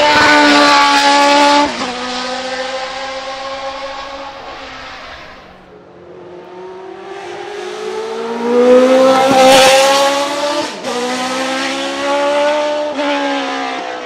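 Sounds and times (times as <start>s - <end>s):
racing car engine accelerating: 0.0s - 14.0s.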